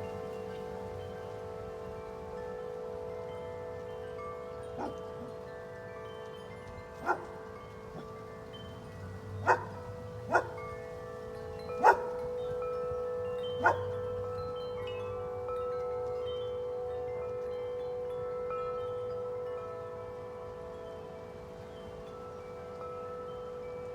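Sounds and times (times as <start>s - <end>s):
wind chimes ringing: 0.0s - 23.9s.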